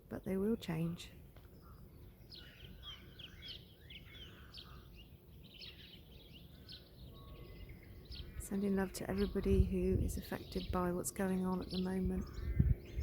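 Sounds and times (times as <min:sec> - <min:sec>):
birds chirping and whistling: 0:01.4 - 0:13.0.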